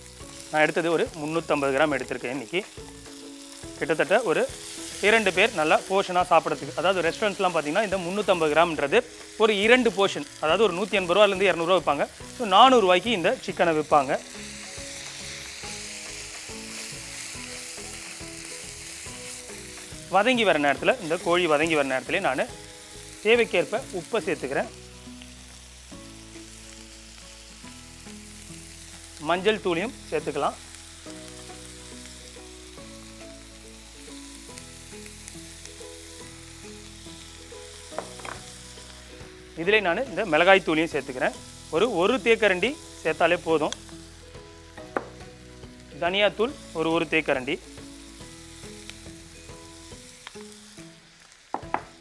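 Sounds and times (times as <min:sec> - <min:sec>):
chicken sizzling in a skillet: 0:00.0 - 0:52.0
soft background music: 0:00.0 - 0:52.0.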